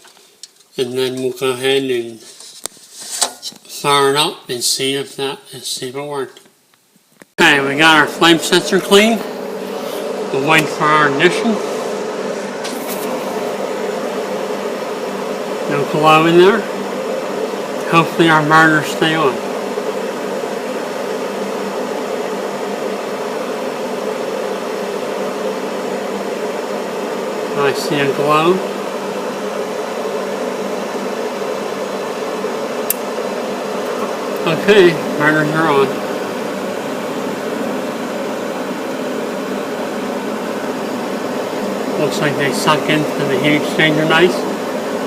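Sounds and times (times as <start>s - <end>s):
furnace fan motor humming: 0.0s - 6.5s, 7.2s - 45.0s.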